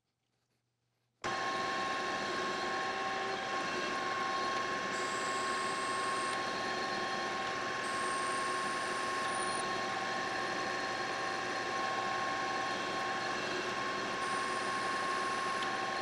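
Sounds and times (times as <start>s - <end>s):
metal lathe gear whine: 1.3s - 16.0s.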